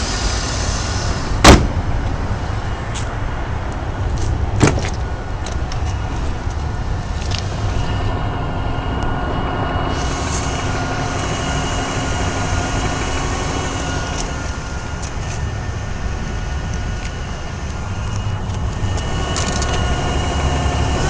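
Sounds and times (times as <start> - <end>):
car engine low rumble: 0.0 - 21.0
faint engine whine: 0.0 - 21.0.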